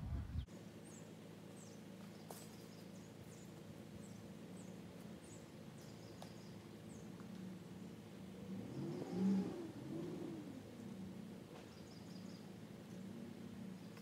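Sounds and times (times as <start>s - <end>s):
small birds chirping: 0.1s - 14.0s
distant engine idling: 0.4s - 14.0s.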